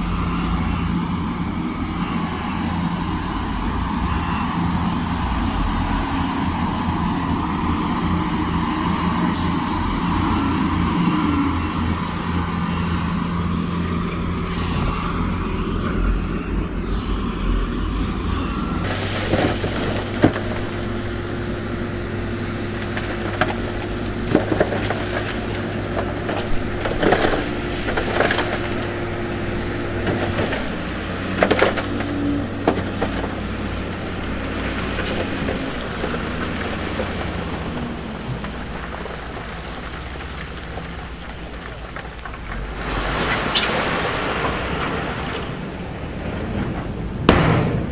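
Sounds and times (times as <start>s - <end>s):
heavy machinery diesel engines: 0.0s - 47.9s.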